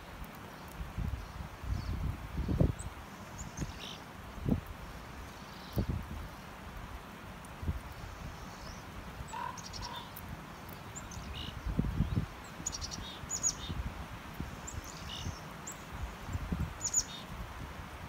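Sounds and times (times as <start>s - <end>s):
small birds chirping: 0.0s - 6.6s, 7.8s - 17.4s
wind rumble on microphone: 0.0s - 18.0s.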